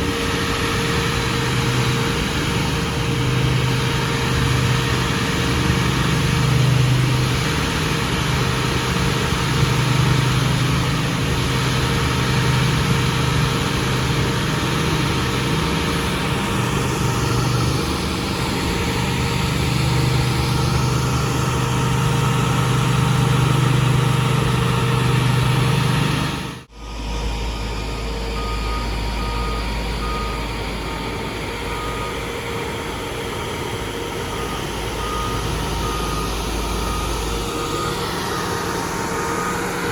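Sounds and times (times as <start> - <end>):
heavy machinery engines humming: 0.0 - 39.9
reversing alarm beeping: 0.0 - 39.9.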